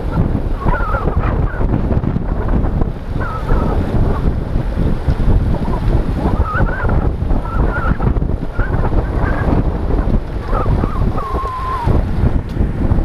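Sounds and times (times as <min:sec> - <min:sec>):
wind buffeting: 0:00.0 - 0:13.0.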